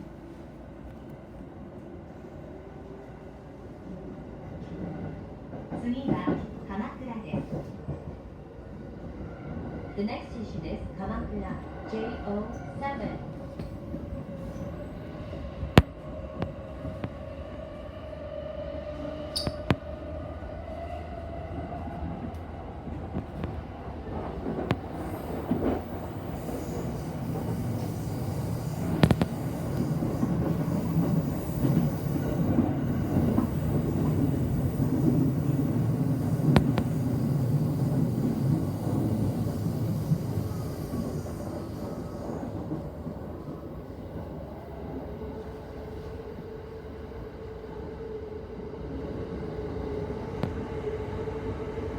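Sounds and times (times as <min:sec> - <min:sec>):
train wheels rumbling on rail: 0:00.0 - 0:18.1, 0:18.8 - 0:46.6.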